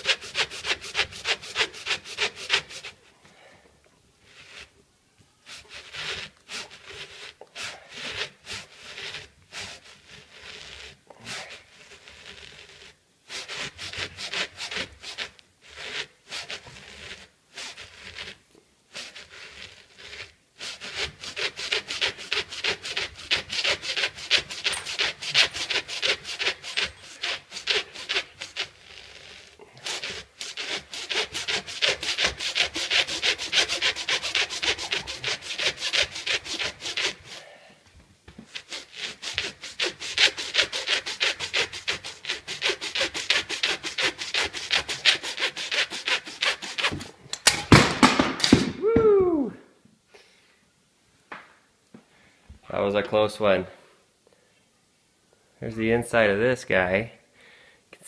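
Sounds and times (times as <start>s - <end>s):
blade sawing through a baseball: 0.0s - 3.5s, 4.2s - 4.8s, 5.4s - 37.6s, 38.4s - 48.8s.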